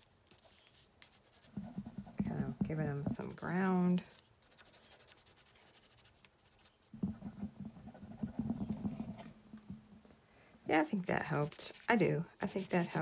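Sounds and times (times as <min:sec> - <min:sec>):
pencil scratching on paper: 0:00.3 - 0:09.2, 0:11.0 - 0:13.0.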